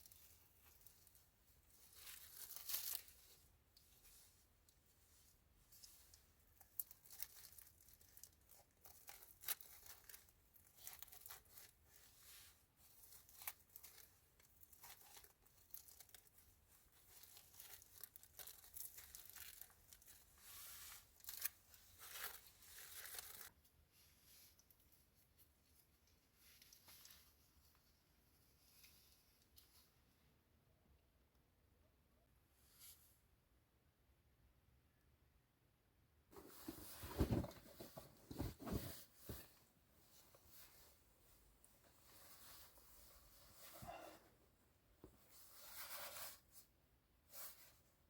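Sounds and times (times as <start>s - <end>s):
faint crackling and rustling: 0.0s - 30.3s, 36.3s - 48.0s.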